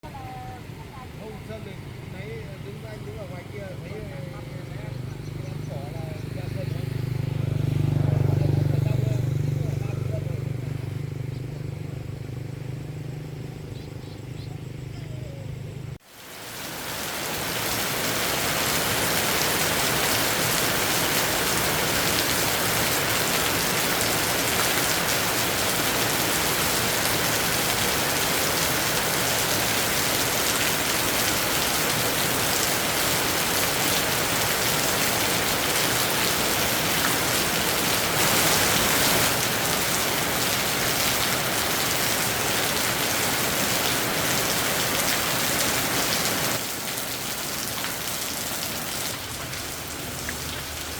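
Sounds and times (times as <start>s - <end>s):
heavy rain pouring: 0.1s - 9.2s, 16.0s - 50.9s.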